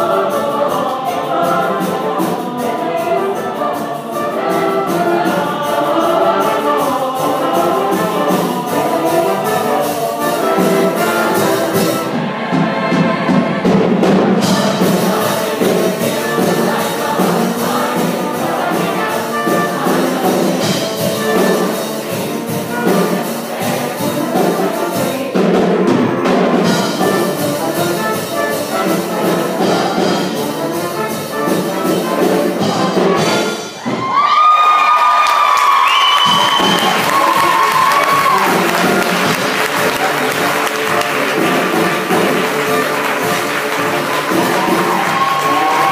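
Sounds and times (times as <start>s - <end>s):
choir singing: 0.0s - 33.9s, 36.2s - 45.9s
live band with brass: 0.0s - 45.9s.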